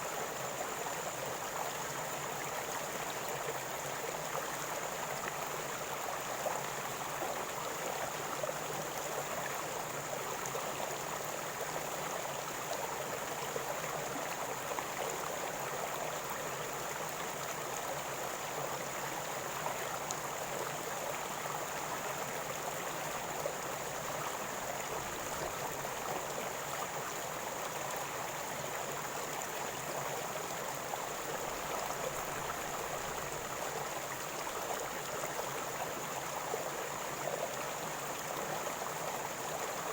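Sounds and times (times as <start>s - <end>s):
river water flowing and gurgling: 0.1s - 39.9s.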